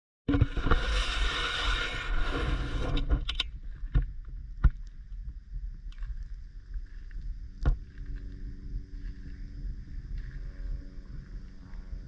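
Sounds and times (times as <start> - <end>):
wind rumble on microphone: 0.3 - 12.0.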